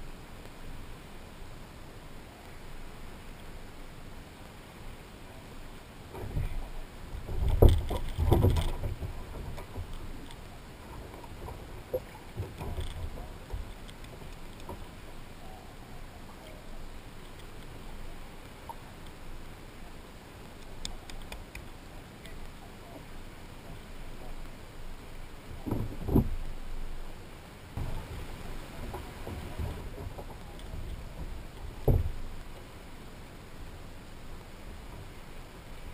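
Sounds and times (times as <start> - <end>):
water splashing: 5.7 - 35.9.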